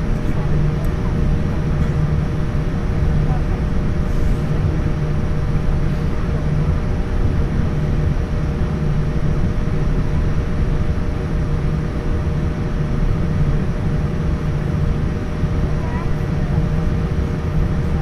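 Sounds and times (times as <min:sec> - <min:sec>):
aircraft cabin hum: 0:00.0 - 0:18.0
faint steady whine: 0:00.0 - 0:18.0.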